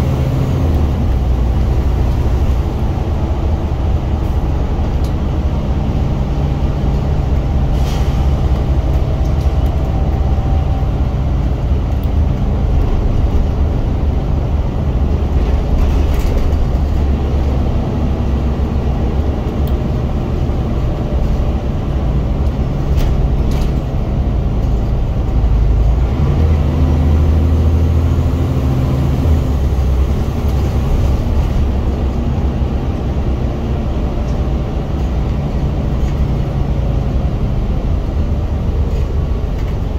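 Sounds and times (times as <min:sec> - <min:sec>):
bus engine working hard: 0:00.0 - 0:39.9.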